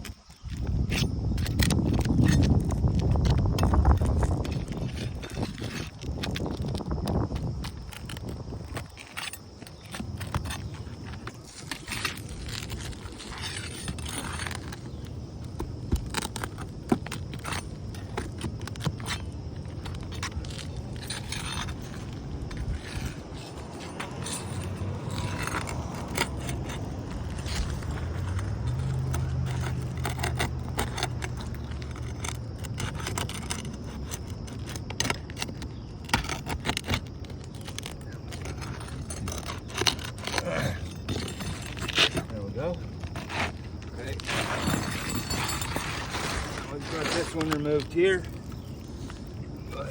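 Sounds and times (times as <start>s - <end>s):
metal tool scraping nails: 0.2s - 49.2s.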